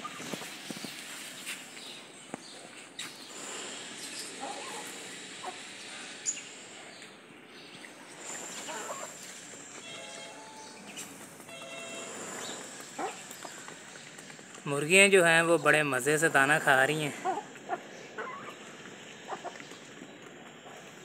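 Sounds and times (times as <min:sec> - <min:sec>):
hens pecking on brick floor: 0:00.0 - 0:21.0
steady outdoor background: 0:00.0 - 0:21.0.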